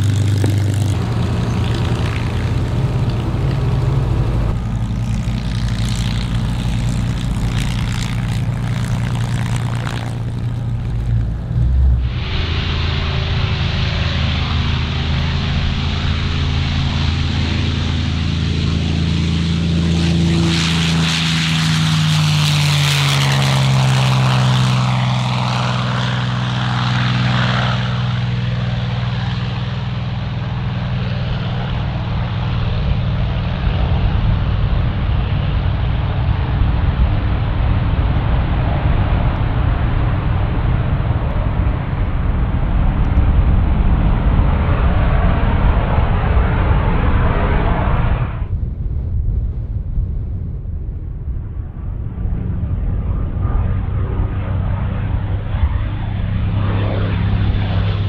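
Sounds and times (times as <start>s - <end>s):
propeller plane engine passing low: 0.0s - 58.0s.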